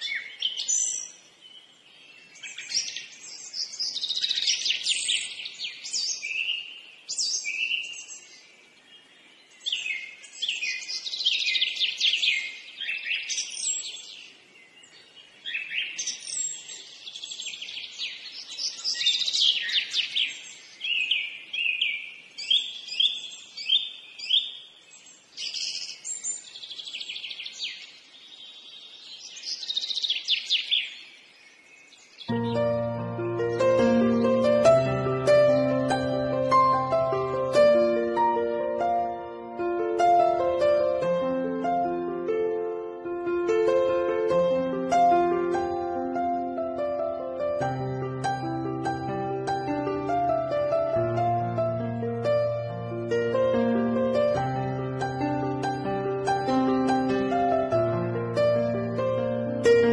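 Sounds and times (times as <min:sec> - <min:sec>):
birds chirping and singing: 0:00.0 - 0:59.9.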